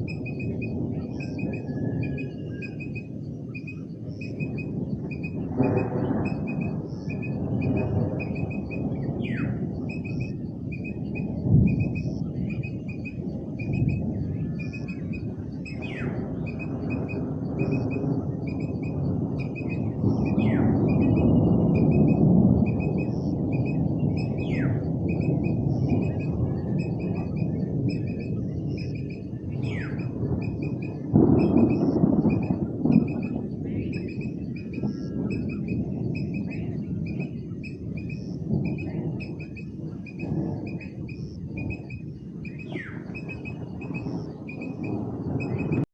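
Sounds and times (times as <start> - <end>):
birds chirping: 0.0 - 45.8
steady low rumble: 0.0 - 45.9.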